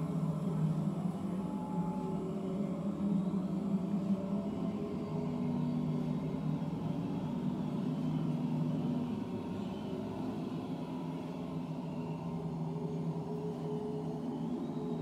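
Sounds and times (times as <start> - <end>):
ambient droning music: 0.0 - 15.0.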